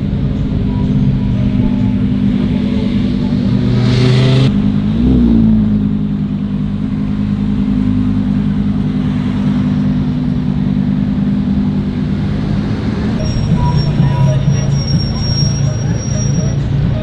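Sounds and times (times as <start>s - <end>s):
car engine running low: 0.0s - 17.0s.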